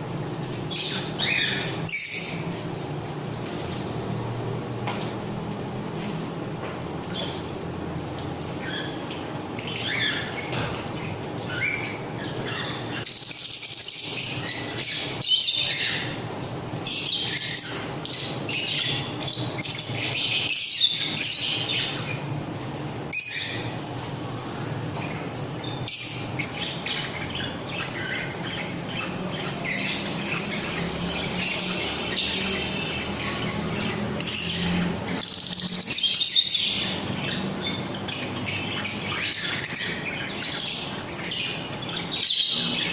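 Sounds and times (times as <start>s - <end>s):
parrots chirping and squawking: 0.0s - 6.3s, 6.9s - 42.9s.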